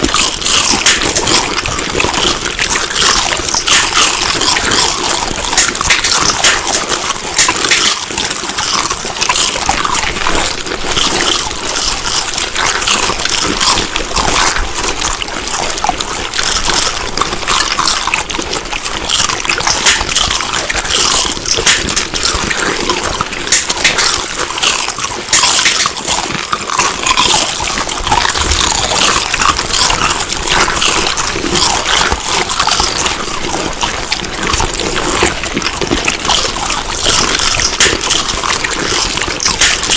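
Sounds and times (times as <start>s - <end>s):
chewing food: 0.0s - 39.9s.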